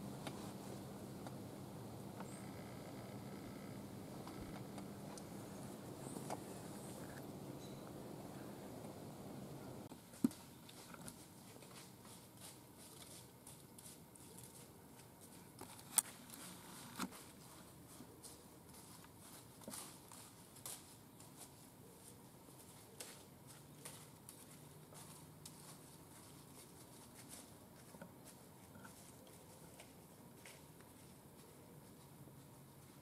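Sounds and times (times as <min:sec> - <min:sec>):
faint rustles in woods: 0:00.0 - 0:33.0.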